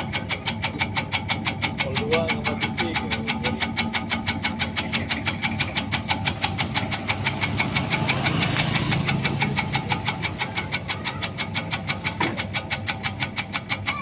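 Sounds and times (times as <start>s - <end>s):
fast machine clatter: 0.0s - 14.0s
low engine hum: 0.0s - 14.0s.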